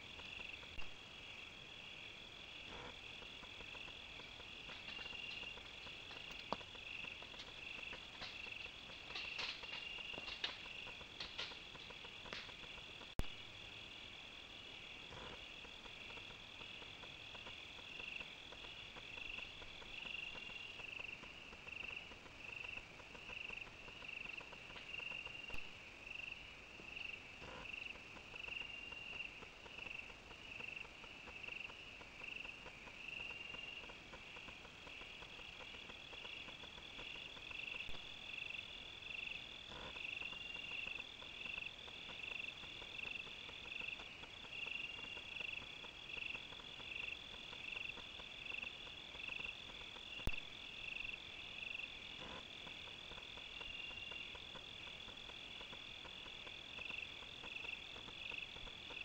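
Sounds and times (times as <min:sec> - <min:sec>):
crickets trilling: 0:00.0 - 0:59.0
faint ticks: 0:02.6 - 0:13.3, 0:15.1 - 0:26.2, 0:27.0 - 0:59.0.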